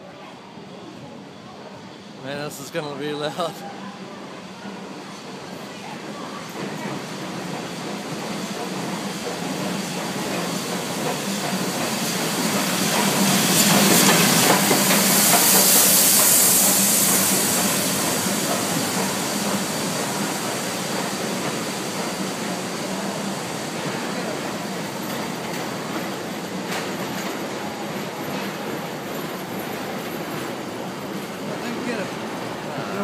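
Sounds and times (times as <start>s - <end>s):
train rumble: 0.5s - 33.0s
steam hissing: 4.2s - 33.0s.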